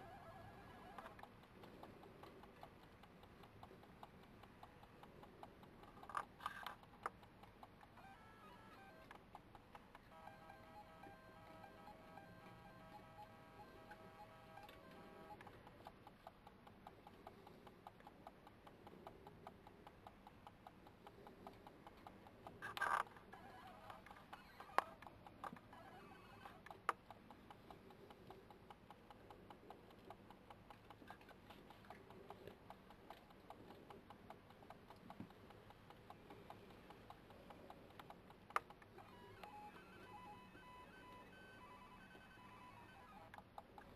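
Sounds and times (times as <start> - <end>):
sharp clicks: 0.0 - 43.9
soft ticks: 0.0 - 43.9.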